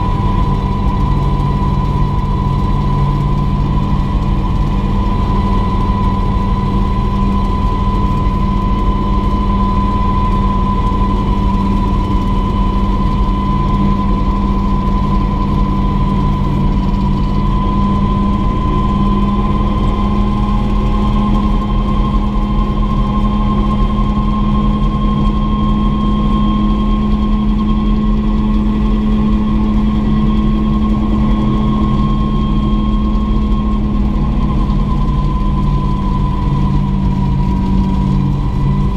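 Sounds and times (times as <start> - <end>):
heavy low drone: 0.0 - 38.9
helicopter turbine whine: 0.0 - 38.9.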